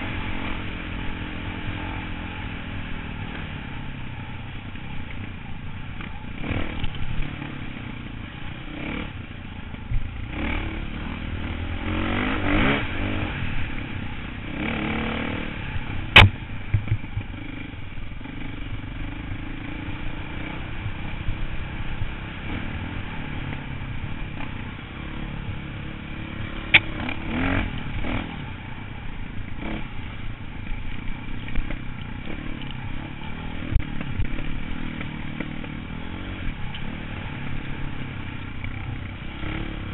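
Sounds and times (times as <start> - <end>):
dirt bike engine revving: 6.0 - 9.3, 10.1 - 16.4, 17.1 - 39.9.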